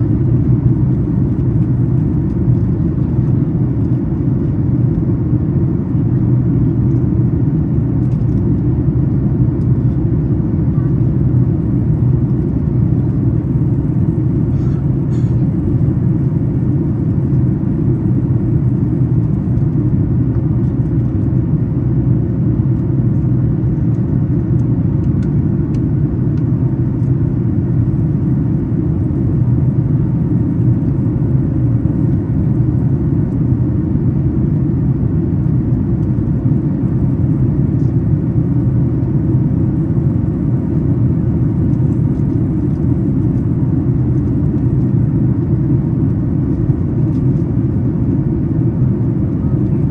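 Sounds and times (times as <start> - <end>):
airplane cabin roar: 0.0 - 49.9.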